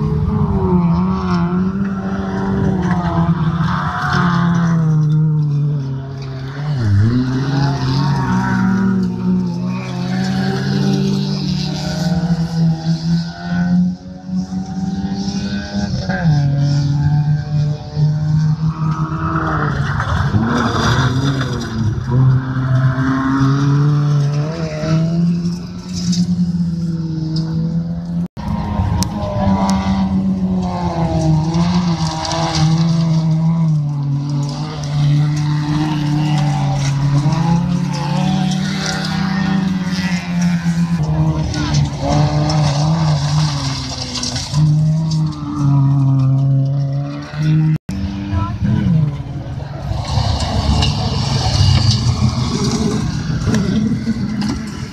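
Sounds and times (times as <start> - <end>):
race car engines revving: 0.0 - 54.9.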